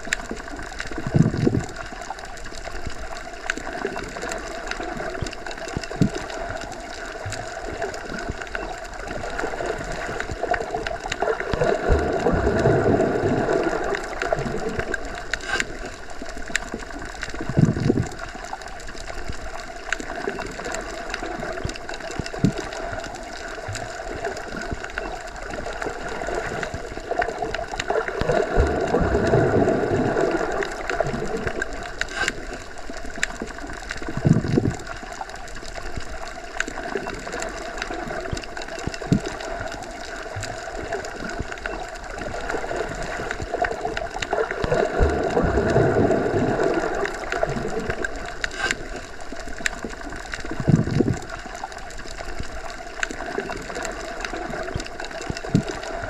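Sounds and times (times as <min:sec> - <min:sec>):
low underwater surges and thumps: 0:00.0 - 0:56.0
muffled underwater water rush: 0:00.0 - 0:56.0.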